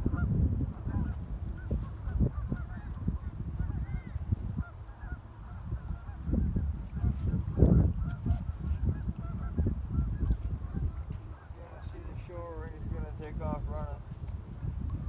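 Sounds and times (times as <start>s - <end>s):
geese honking in distance: 0.0s - 14.2s.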